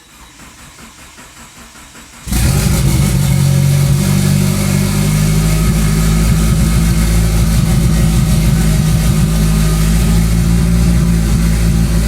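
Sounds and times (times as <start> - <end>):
car engine starting and running: 2.2 - 12.0.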